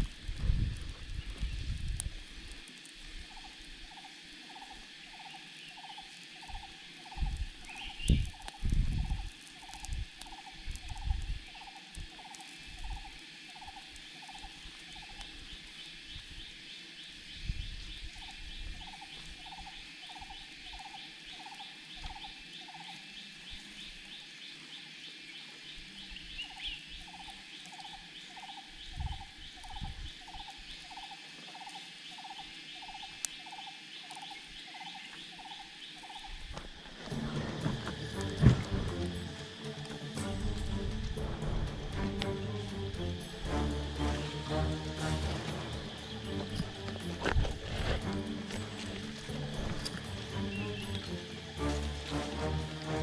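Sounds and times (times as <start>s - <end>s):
high insect trill: 0.0s - 53.0s
frogs calling: 2.4s - 52.9s.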